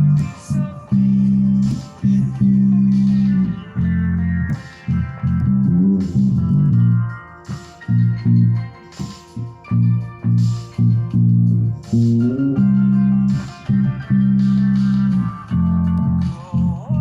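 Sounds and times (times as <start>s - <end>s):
instrumental guitar music: 0.0s - 17.0s
plucked bass line: 0.0s - 17.0s.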